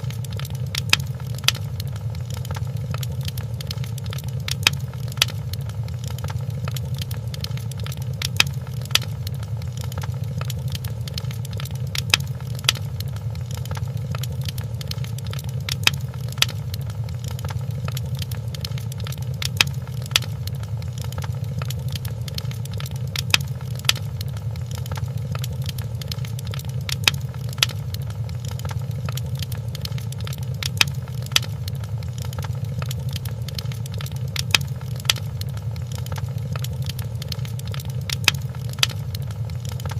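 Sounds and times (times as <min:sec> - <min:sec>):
fireplace crackling: 0:00.0 - 0:39.9
loud fire pops: 0:00.0 - 0:39.9.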